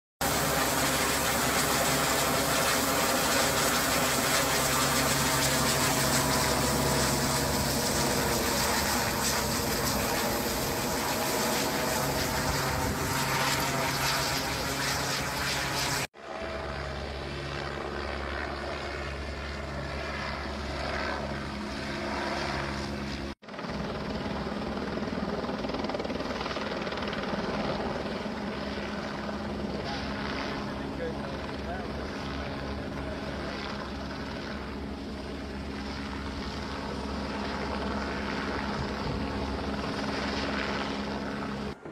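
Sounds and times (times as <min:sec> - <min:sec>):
helicopter rotor drone: 0:00.2 - 0:41.9.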